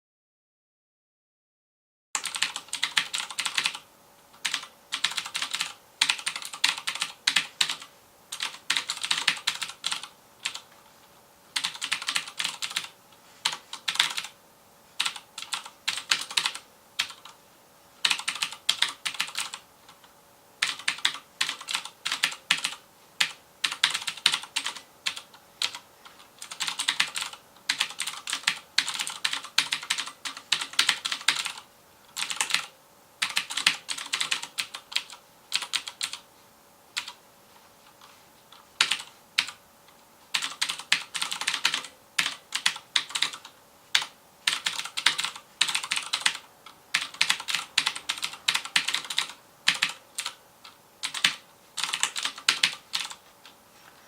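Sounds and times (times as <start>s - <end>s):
mechanical keyboard typing: 2.2s - 10.7s, 11.6s - 14.4s, 15.0s - 17.4s, 18.0s - 36.2s, 37.0s - 37.2s, 38.0s - 39.6s, 40.3s - 53.6s.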